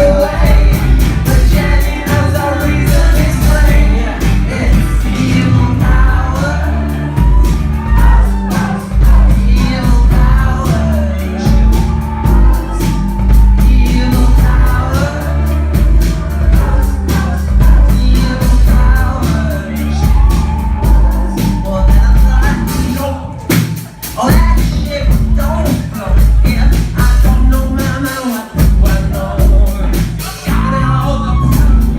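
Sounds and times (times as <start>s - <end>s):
live band playing: 0.0s - 31.9s
loud drums: 0.0s - 31.9s
person singing: 0.0s - 31.9s.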